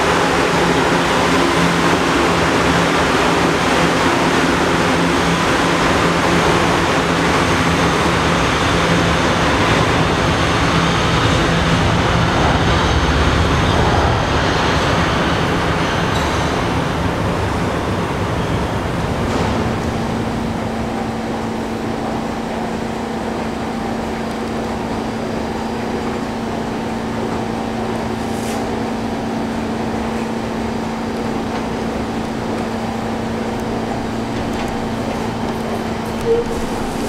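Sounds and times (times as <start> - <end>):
ventilation hum and rushing: 0.0 - 37.0.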